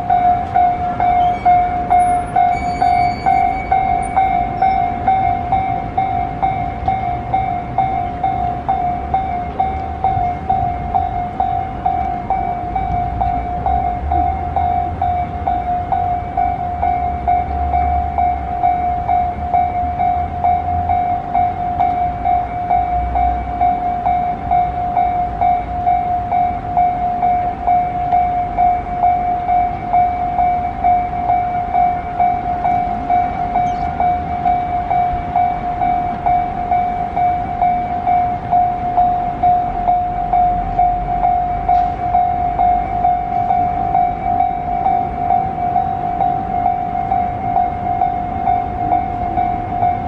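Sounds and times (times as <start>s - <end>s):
level-crossing warning bell: 0.0s - 50.0s.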